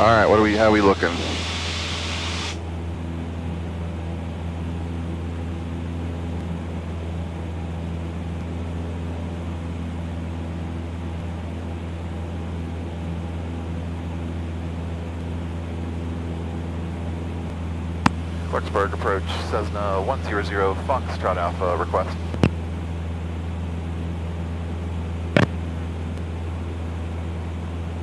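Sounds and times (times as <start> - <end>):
light aircraft engine drone: 0.0 - 28.0.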